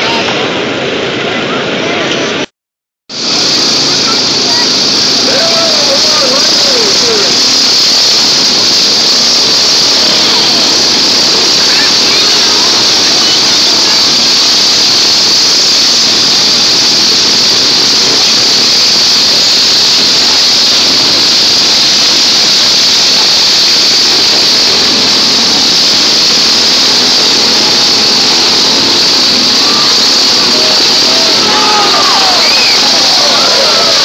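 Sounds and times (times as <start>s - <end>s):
riding lawn mower engines: 3.1s - 34.0s.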